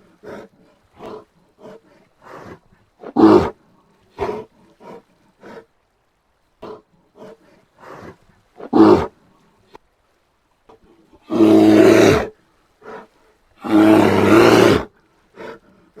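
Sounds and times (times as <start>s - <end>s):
bear grunting: 0.0s - 5.7s, 6.6s - 9.6s, 10.7s - 16.0s
bear roaring: 0.0s - 5.7s, 6.6s - 9.2s, 11.2s - 16.0s.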